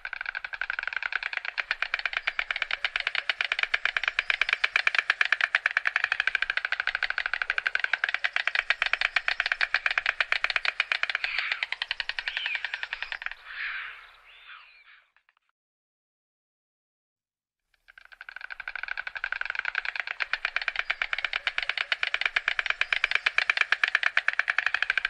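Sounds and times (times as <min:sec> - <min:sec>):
stork clattering its bill: 0:00.0 - 0:13.5, 0:17.8 - 0:25.0.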